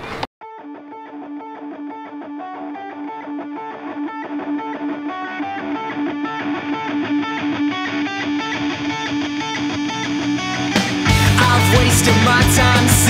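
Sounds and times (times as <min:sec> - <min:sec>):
electric guitar riff: 0:00.0 - 0:13.0.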